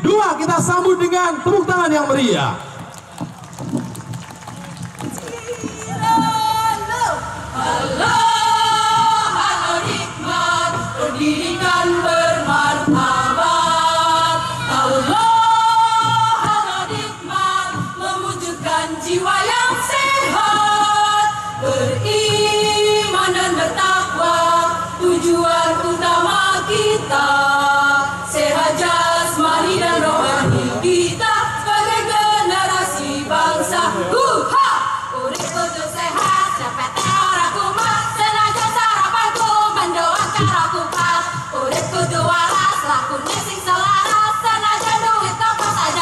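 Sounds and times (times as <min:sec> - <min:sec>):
women's choir singing: 0:05.4 - 0:46.0.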